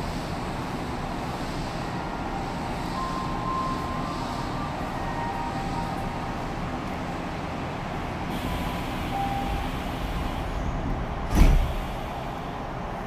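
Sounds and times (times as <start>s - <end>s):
train air conditioning hum: 0.0s - 13.0s.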